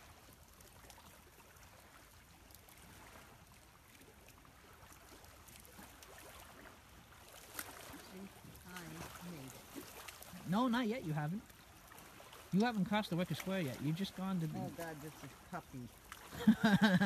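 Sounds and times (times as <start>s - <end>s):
faint flowing water: 0.0s - 17.0s.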